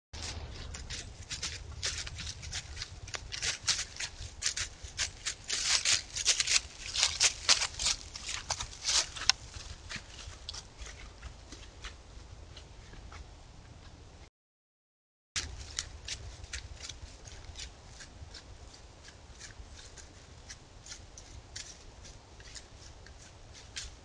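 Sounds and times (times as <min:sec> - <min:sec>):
deer steps crunching dry leaves: 0:00.2 - 0:13.2, 0:15.4 - 0:24.0.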